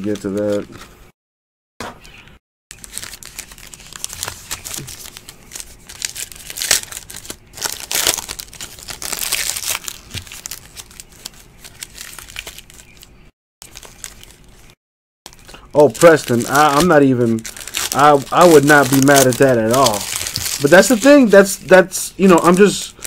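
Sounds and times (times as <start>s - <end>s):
card pack wrappers crinkling and tearing: 0.0s - 0.8s, 2.7s - 14.7s, 15.3s - 21.6s.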